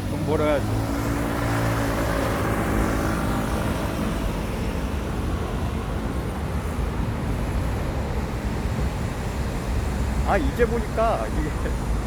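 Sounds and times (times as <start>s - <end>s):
passing cars rushing: 0.0s - 12.0s
vehicle engine hum: 0.0s - 12.0s.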